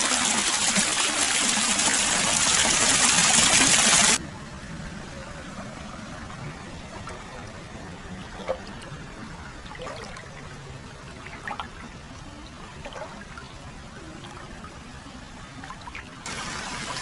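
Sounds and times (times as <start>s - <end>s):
water pouring and trickling: 0.0s - 4.2s, 5.8s - 17.0s
water splashes and drips: 0.0s - 4.2s, 6.8s - 17.0s.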